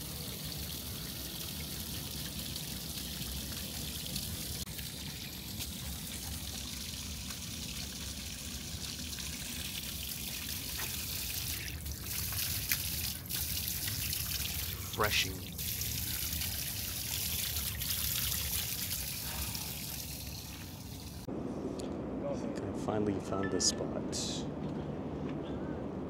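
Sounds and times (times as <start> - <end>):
water trickling and splashing: 0.0 - 21.3.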